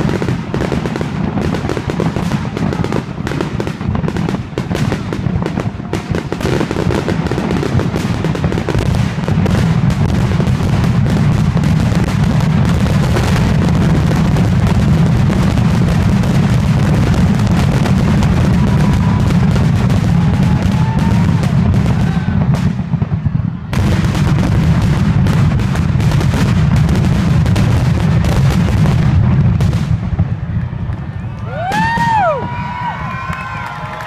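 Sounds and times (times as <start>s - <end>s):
fireworks bursts and booms: 0.0s - 34.0s.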